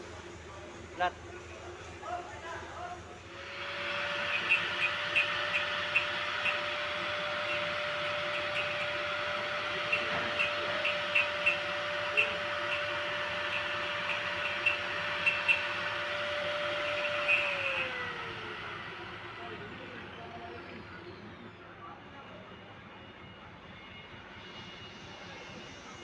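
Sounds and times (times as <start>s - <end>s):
steady whine: 0.0s - 26.0s.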